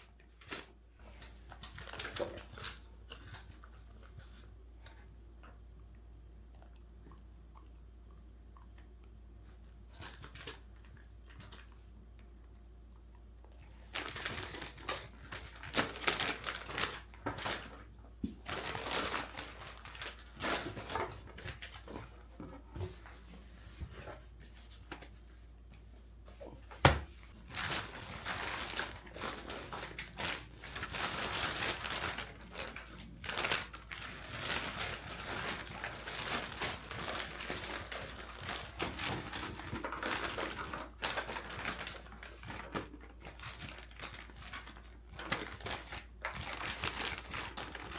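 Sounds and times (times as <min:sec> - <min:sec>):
rustling and crinkling handling: 0:00.0 - 0:05.6, 0:08.8 - 0:47.9.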